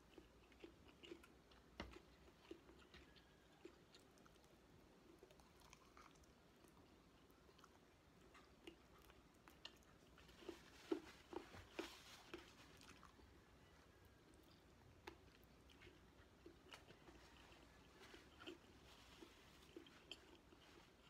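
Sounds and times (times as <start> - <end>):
chewing and mouth smacks: 0.0 - 13.2, 14.3 - 21.0.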